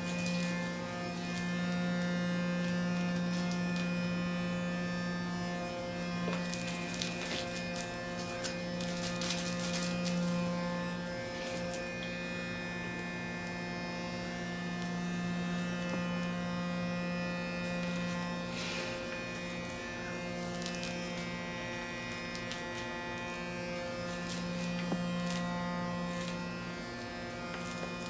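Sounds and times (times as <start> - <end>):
facial cleansing brush buzzing: 0.0 - 28.0.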